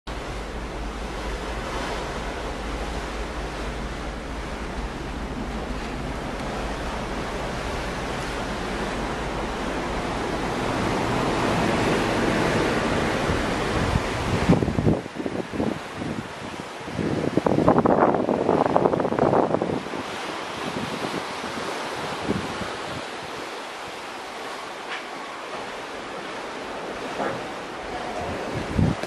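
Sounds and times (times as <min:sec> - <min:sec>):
wind on microphone: 0:00.1 - 0:24.7, 0:25.5 - 0:29.0
sea water rushing past hull: 0:00.1 - 0:29.0.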